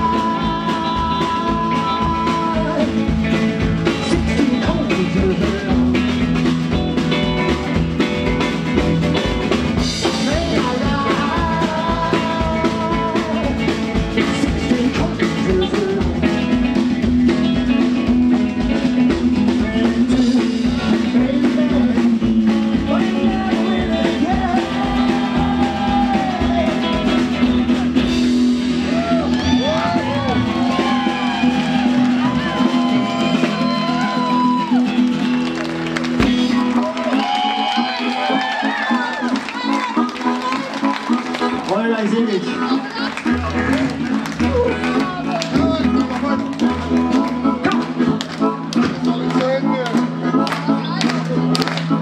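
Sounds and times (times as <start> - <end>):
rock and roll band playing: 0.0 - 52.0.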